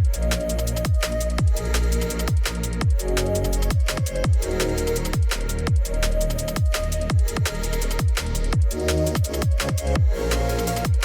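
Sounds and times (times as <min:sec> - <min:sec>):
electronic music with kick drums: 0:00.0 - 0:11.0.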